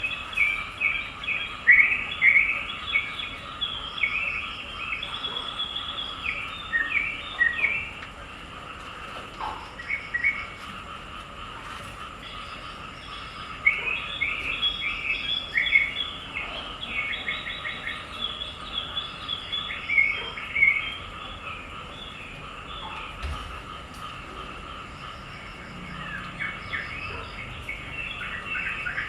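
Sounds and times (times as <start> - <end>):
birds chirping and twittering: 0.0 - 29.0.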